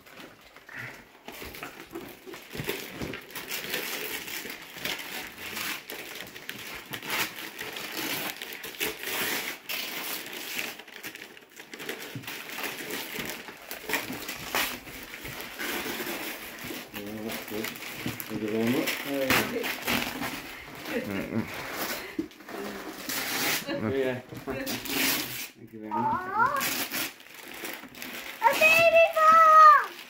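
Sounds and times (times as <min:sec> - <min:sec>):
wrapping paper rustling: 0:00.0 - 0:30.0
paper ripping: 0:00.7 - 0:30.0.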